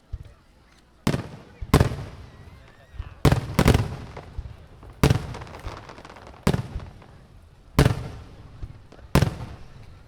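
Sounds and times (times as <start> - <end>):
fireworks booming: 1.0 - 10.0.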